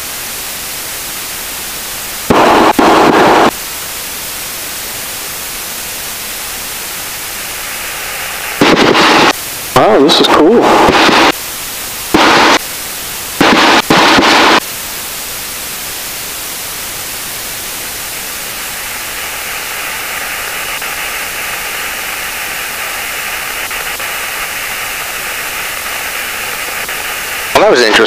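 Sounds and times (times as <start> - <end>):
headset intercom static hiss: 0.0 - 28.0
short loud static bursts: 1.3 - 28.0.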